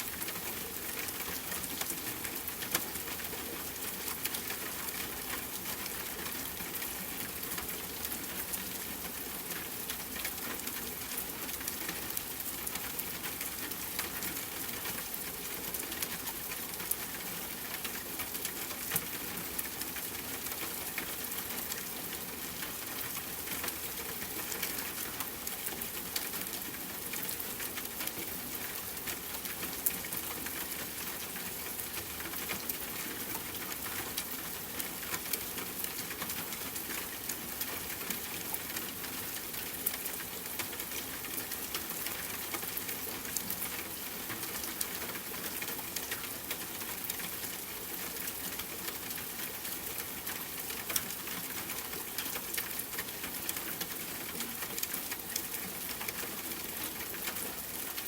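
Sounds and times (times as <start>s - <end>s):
soft rainfall: 0.0s - 58.0s.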